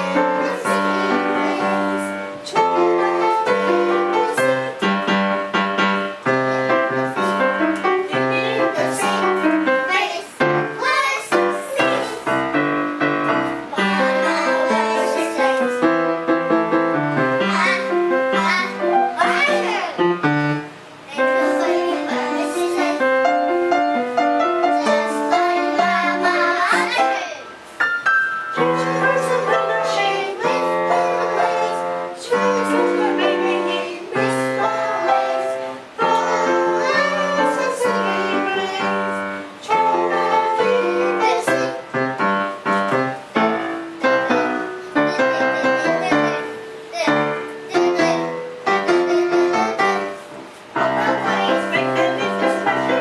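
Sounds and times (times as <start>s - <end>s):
piano-led tune: 0.0s - 53.0s.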